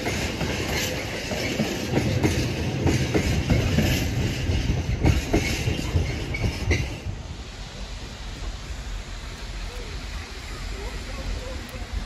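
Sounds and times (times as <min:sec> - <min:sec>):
train wheels clicking over joints: 0:00.0 - 0:12.0.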